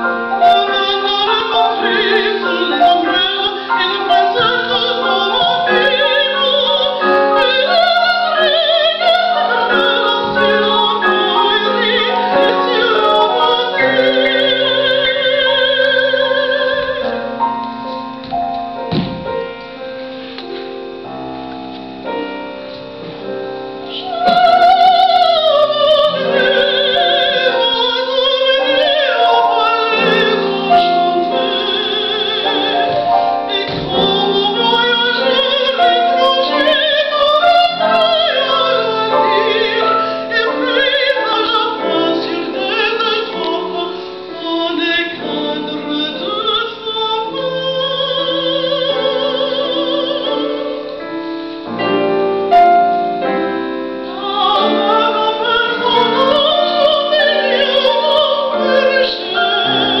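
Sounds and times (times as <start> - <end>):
woman singing opera: 0.0 - 17.4, 23.9 - 51.2, 53.3 - 60.0
grand piano: 0.0 - 60.0.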